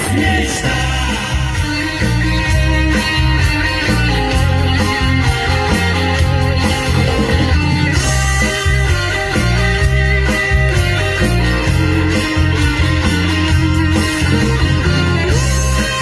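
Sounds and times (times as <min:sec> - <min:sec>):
bass guitar line: 0:00.0 - 0:16.0
electric guitar playing: 0:00.0 - 0:16.0.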